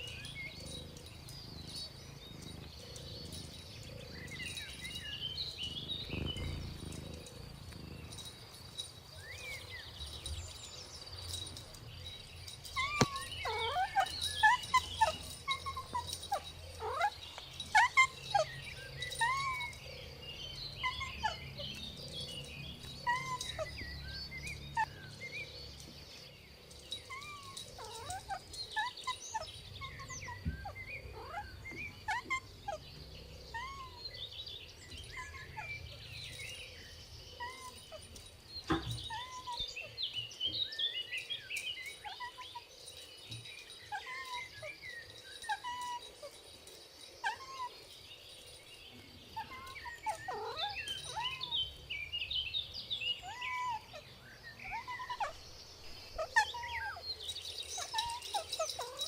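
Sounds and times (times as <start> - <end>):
bird chirps and calls: 0.0 - 59.0.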